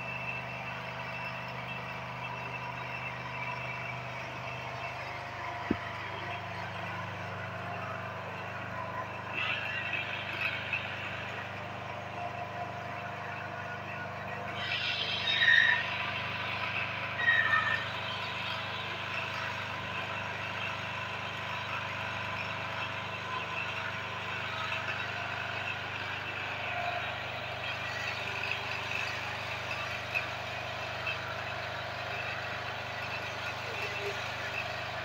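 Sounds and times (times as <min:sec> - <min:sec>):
engine-like hum: 0:00.0 - 0:35.0.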